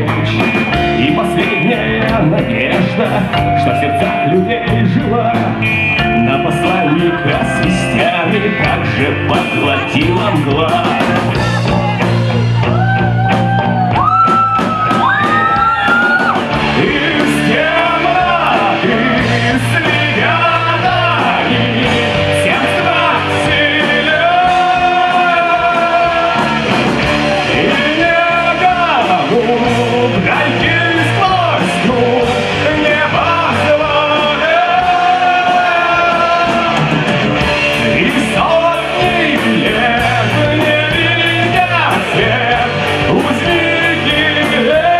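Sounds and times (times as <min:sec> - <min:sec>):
rock band music: 0:00.0 - 0:44.9.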